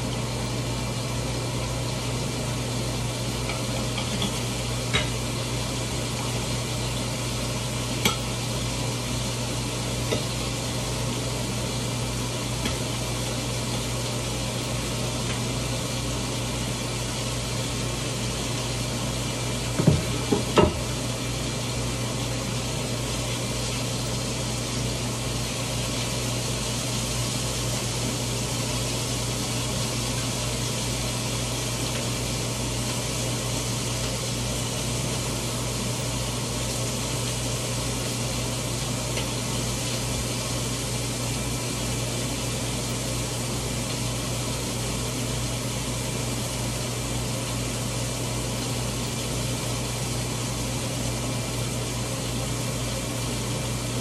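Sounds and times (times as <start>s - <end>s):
fan motor hum and hiss: 0.0s - 54.0s.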